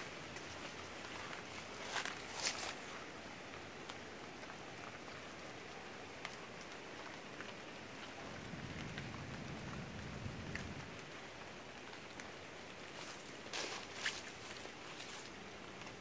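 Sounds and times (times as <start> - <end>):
light rain on foliage: 0.0 - 16.0
single raindrops: 0.0 - 16.0.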